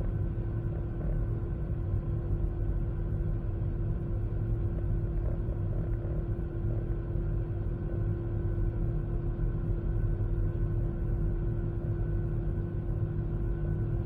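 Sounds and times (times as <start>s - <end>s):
aircraft cabin engine rumble: 0.0s - 14.0s
constant cabin hum: 0.0s - 14.0s.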